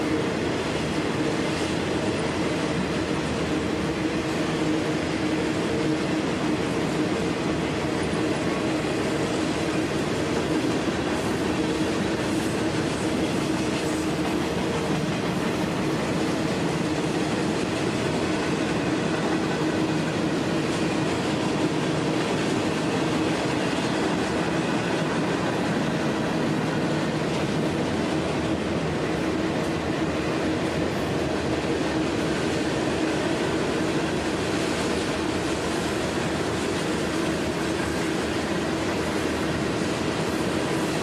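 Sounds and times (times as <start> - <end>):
railroad cars rolling past: 0.0 - 41.0.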